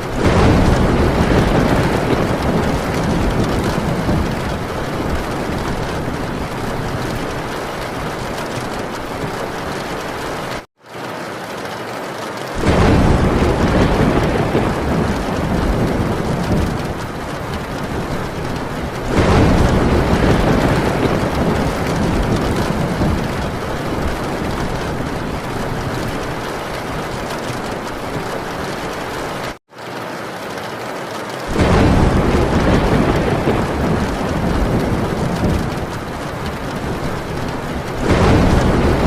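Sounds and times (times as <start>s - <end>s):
thunder rolling: 0.0s - 10.6s, 12.5s - 29.6s, 31.4s - 39.0s
heavy rain on a tin roof: 0.0s - 39.0s.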